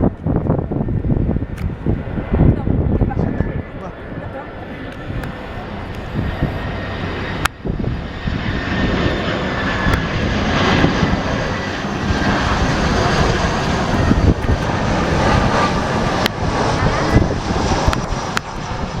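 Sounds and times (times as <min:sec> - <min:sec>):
airplane engine rumble and whine: 0:00.0 - 0:19.0.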